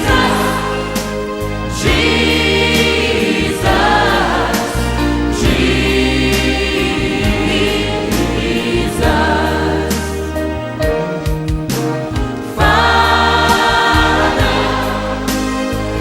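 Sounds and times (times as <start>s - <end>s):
band accompaniment: 0.0s - 16.0s
choir singing: 0.0s - 16.0s.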